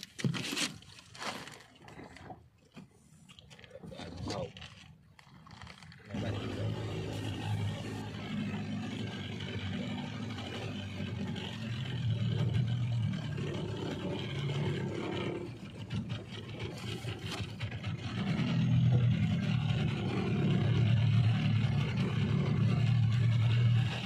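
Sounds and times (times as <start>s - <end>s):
boat engine running: 1.4s - 24.0s.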